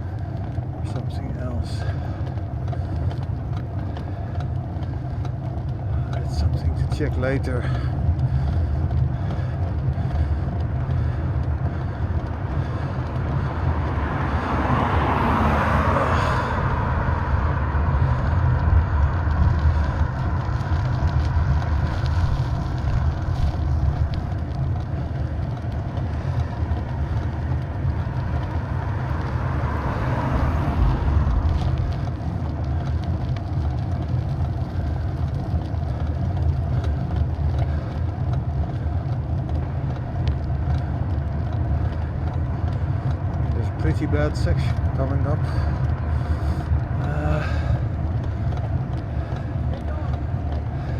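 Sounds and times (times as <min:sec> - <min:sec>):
bicycle rumbling over rough road: 0:00.0 - 0:50.9
handlebar rattling and creaking: 0:00.0 - 0:50.9
vehicles passing: 0:00.0 - 0:50.9.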